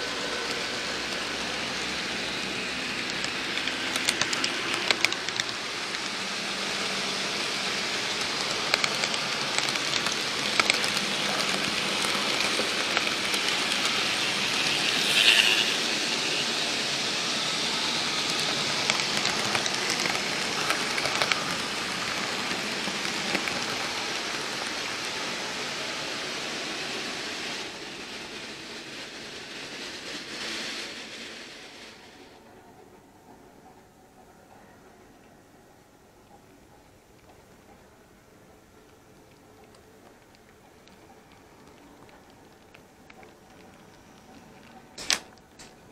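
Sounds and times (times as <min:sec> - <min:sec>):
model train wheels hissing on rails: 0:00.0 - 0:33.0, 0:38.3 - 0:45.9.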